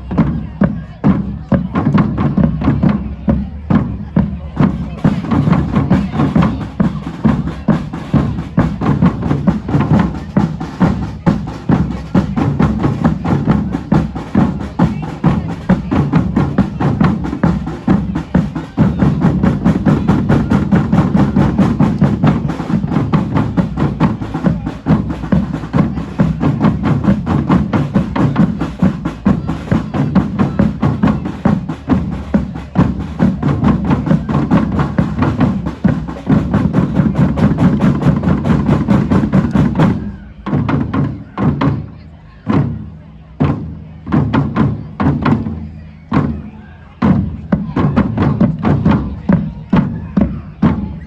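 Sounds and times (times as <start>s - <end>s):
deep bass drums: 0.0s - 42.8s
drum band playing: 0.0s - 51.0s.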